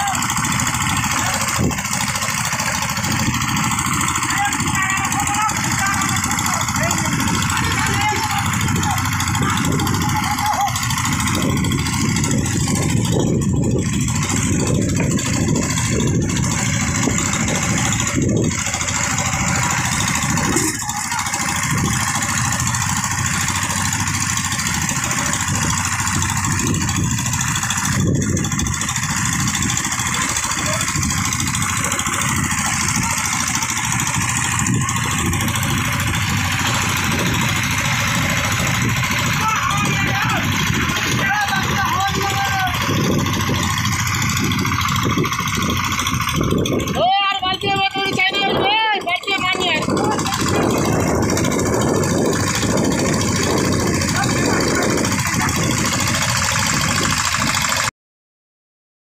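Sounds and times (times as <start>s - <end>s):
boat engine droning: 0.0s - 57.9s.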